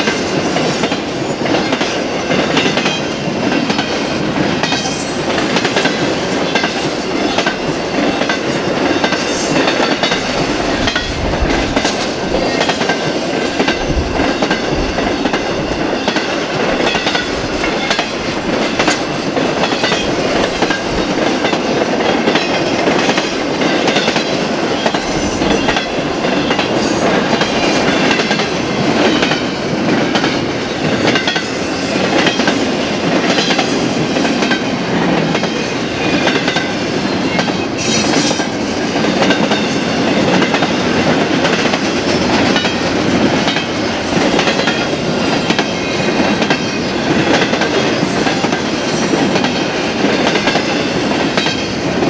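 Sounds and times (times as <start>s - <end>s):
train wheels clattering on rails: 0.0s - 52.0s.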